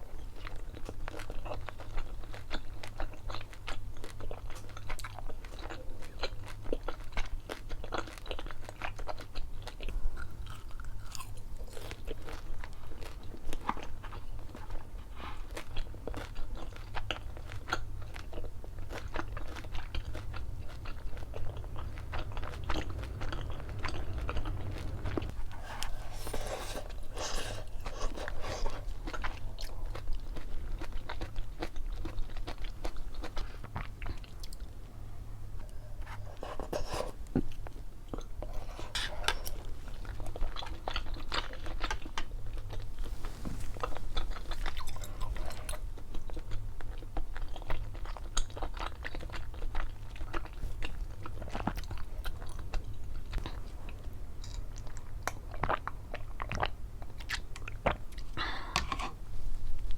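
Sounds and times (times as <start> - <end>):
chewing crunchy food: 0.0 - 59.9.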